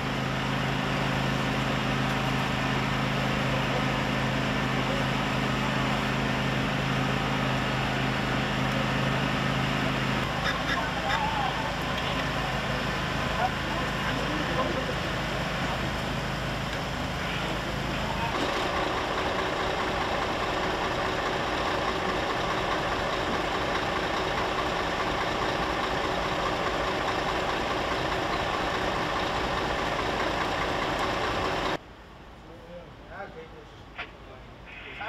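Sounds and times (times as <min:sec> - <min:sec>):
diesel engine idling: 0:00.0 - 0:32.1.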